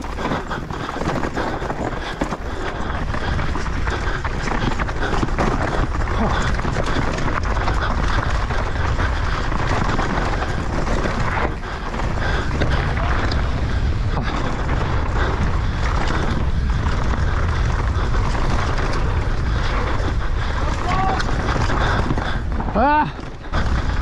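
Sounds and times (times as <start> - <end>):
bike rattling and knocking: 0.0 - 24.0
bike tyre noise: 0.0 - 24.0
wind buffeting microphone: 0.0 - 24.0.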